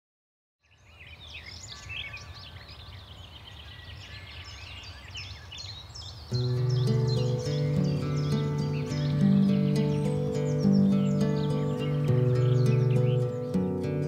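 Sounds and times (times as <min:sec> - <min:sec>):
small birds chirping and whistling: 0:00.6 - 0:14.0.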